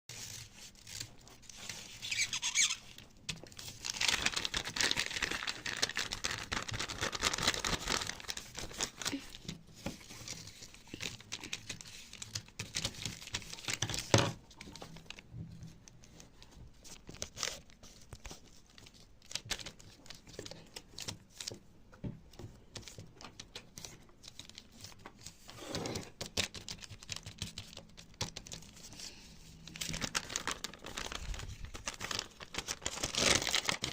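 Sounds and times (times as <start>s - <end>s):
material rustling and crinkling: 0.1s - 33.9s.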